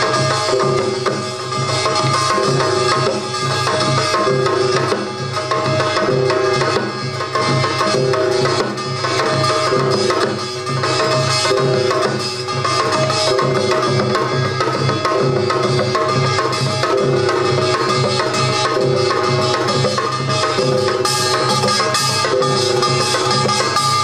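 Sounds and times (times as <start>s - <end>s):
gong tones ringing: 0.0s - 23.9s
drums playing fast rhythm: 0.0s - 24.0s
small gong struck rapidly: 0.0s - 24.0s.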